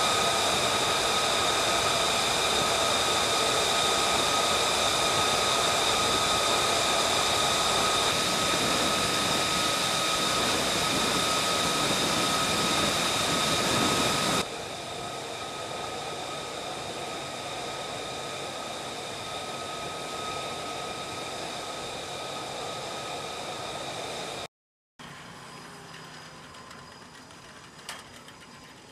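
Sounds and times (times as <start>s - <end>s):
jet turbine rush and whine: 0.0s - 28.9s.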